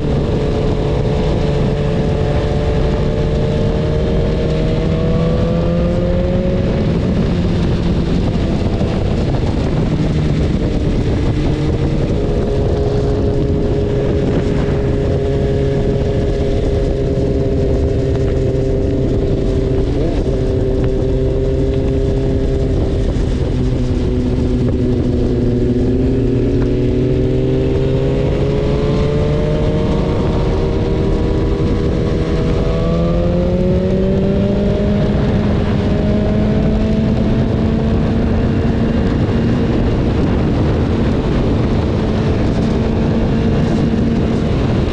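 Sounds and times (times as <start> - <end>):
motorcycle engine revving: 0.0 - 44.9
steady rushing noise: 0.0 - 44.9.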